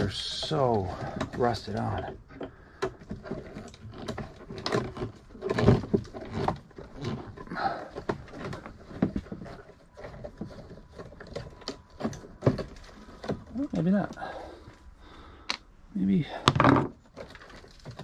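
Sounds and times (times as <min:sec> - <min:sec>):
hand tool clicking and scraping: 0:00.0 - 0:14.8.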